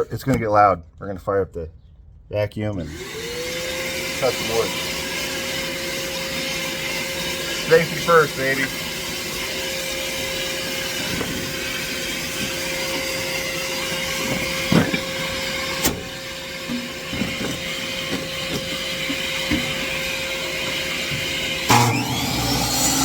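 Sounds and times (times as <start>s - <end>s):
vacuum motor whine: 2.8s - 23.0s.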